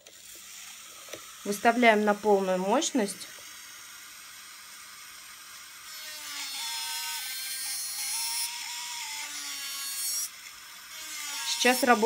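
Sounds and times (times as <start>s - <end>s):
nail drill grinding: 0.0s - 12.0s.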